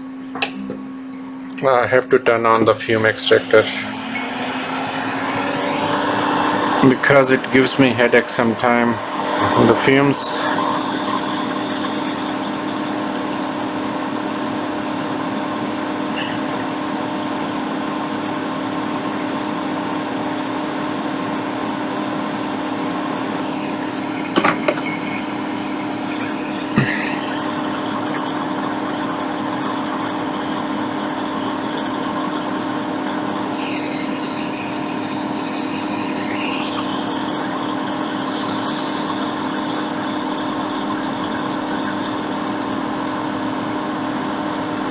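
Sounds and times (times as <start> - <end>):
extractor fan humming: 0.0 - 44.9.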